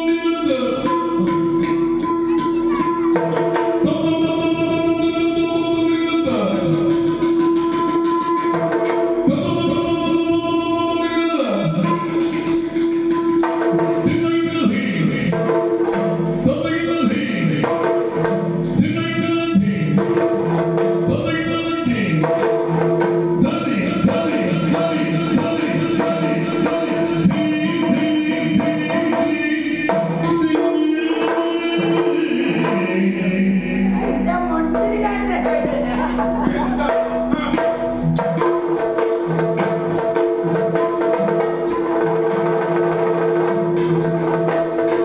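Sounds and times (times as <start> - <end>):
person singing: 0.0 - 40.0.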